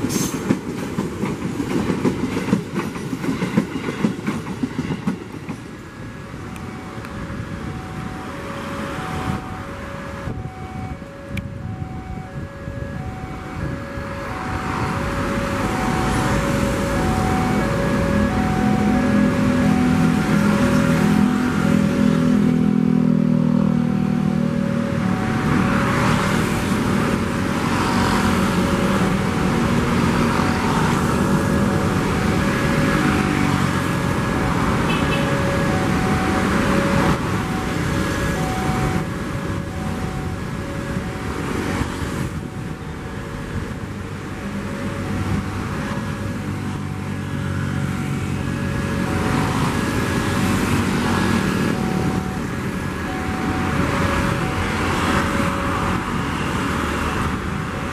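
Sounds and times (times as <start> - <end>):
road traffic noise: 0.0 - 57.9
two-tone crossing warning signal: 5.5 - 57.9.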